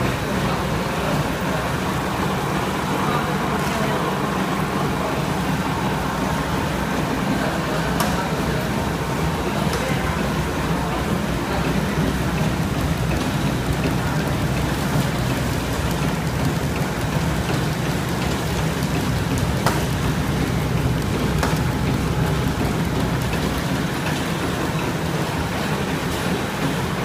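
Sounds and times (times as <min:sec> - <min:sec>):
packing machine hum and clatter: 0:00.0 - 0:27.0.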